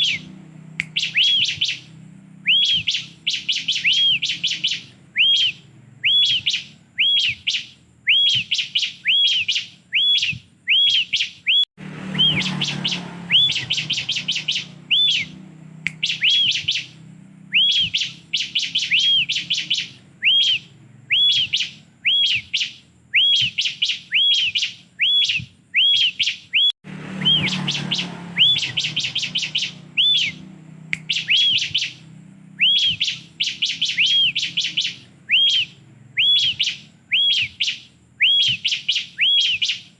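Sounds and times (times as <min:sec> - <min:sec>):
bird whistled notes: 0:00.0 - 0:39.9.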